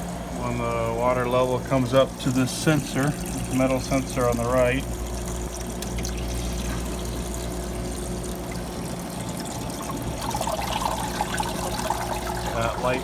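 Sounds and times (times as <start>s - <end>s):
low steady hum: 0.0s - 13.0s
water pouring and trickling: 0.9s - 13.0s.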